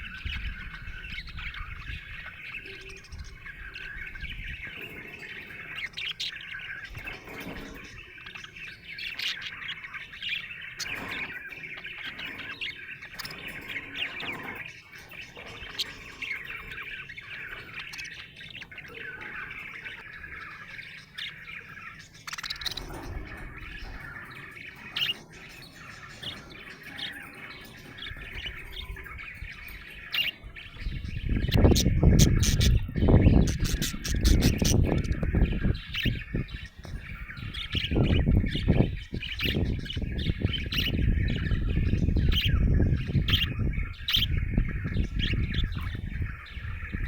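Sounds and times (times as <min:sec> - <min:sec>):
budgerigar chirping and warbling: 0:00.0 - 0:47.0.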